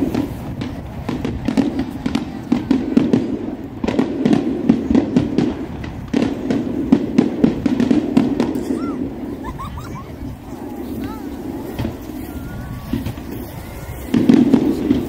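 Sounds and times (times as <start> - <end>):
fireworks cracking and bursting: 0.0 - 15.0.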